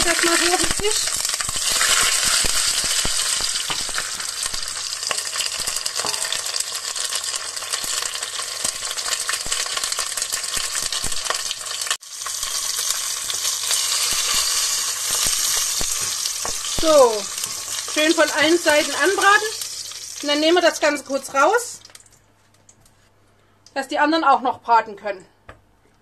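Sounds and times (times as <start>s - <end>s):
peppers sizzling in hot lard: 0.0s - 22.1s
crackling fat: 0.0s - 23.7s.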